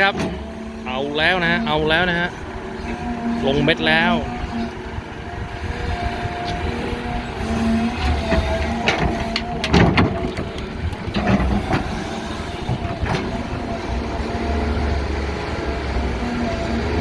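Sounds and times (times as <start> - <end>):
excavator engine rumble: 0.0 - 17.0.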